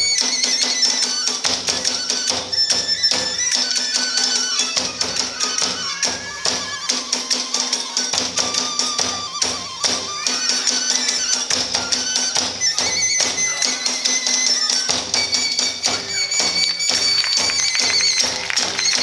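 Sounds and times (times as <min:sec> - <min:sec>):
bamboo flute melody: 0:00.0 - 0:19.0
drums beating fast rhythm: 0:00.0 - 0:19.0
hand cymbals: 0:00.0 - 0:19.0.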